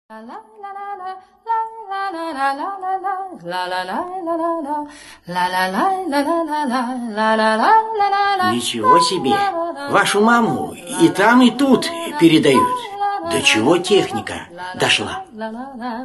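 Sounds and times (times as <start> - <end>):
woman singing slow melody: 0.1 - 16.0.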